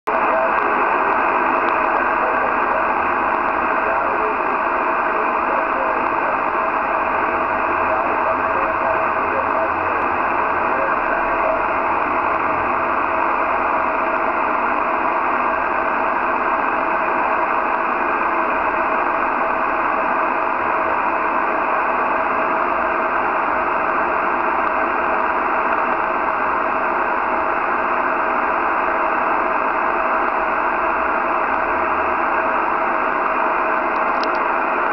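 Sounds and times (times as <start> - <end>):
radio receiver static: 0.1 - 34.9
weak radio voice: 0.1 - 34.9.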